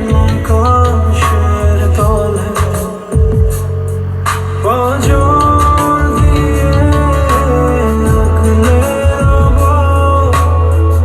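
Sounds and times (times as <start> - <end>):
loud music through speakers: 0.0 - 11.0.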